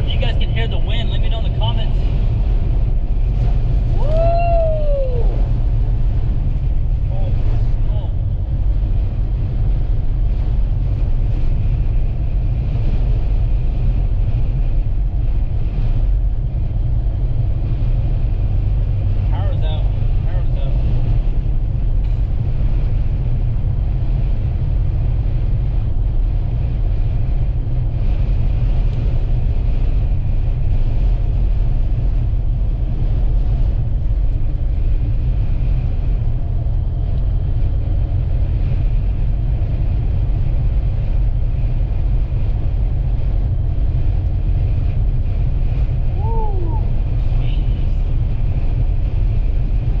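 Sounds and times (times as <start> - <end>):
engine and tyre noise: 0.0 - 50.0.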